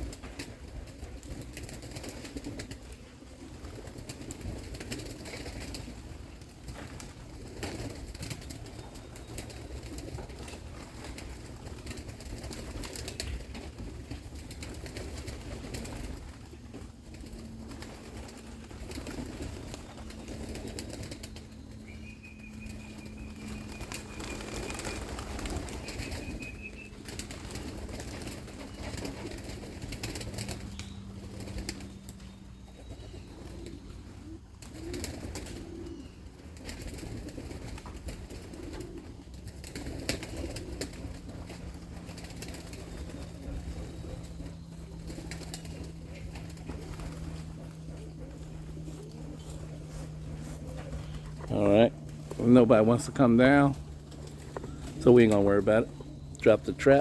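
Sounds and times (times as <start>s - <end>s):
pigeons cooing: 0.0s - 57.0s
steady low hum: 0.0s - 57.0s.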